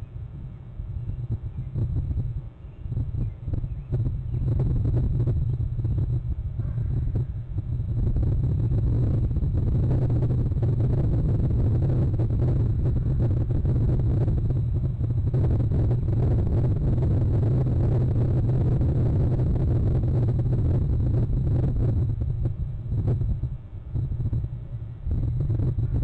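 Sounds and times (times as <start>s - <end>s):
loud low rumble: 0.0s - 26.0s.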